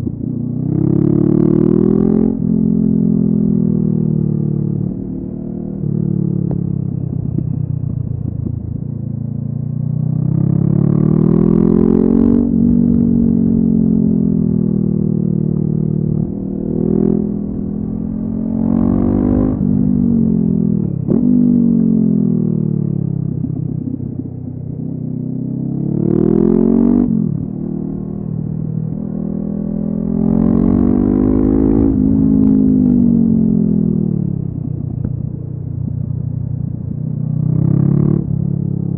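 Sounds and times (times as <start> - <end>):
motorcycle engine revving: 0.0 - 8.8, 10.0 - 38.9.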